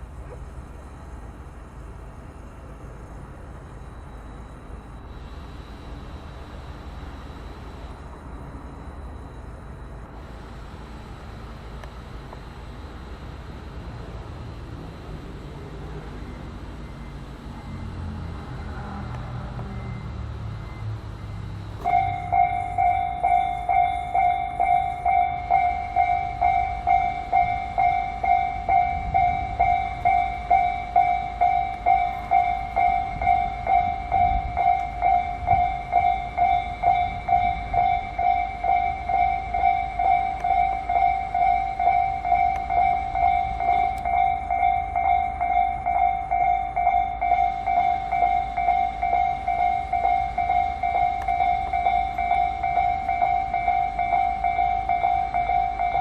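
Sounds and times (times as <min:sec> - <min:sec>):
level-crossing warning bell: 0:00.0 - 0:56.0.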